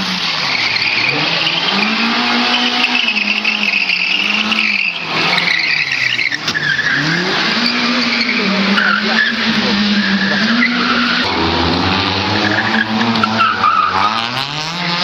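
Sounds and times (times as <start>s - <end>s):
car engine revving: 0.0s - 15.0s
tyres squealing: 0.3s - 11.5s, 12.3s - 14.4s.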